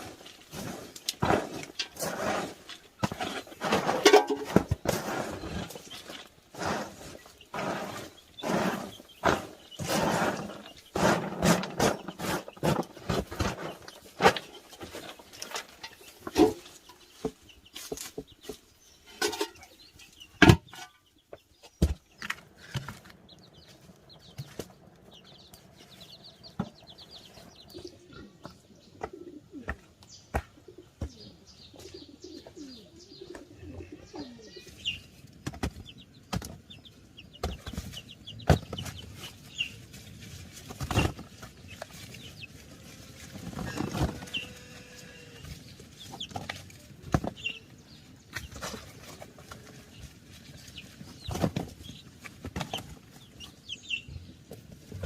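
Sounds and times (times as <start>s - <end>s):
animal and bird calls: 0.0s - 55.0s.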